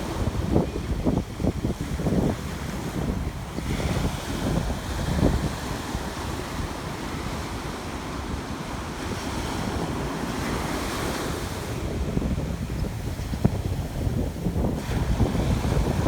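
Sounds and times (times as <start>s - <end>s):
ocean surf on a beach: 0.0s - 16.0s
wind buffeting microphone: 0.0s - 16.0s.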